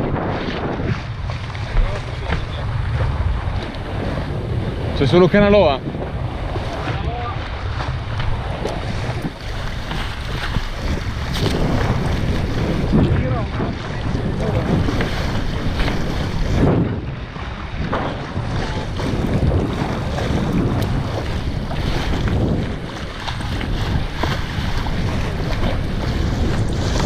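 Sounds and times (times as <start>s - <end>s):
water rushing along hull: 0.0s - 27.0s
wind buffeting microphone: 0.0s - 27.0s.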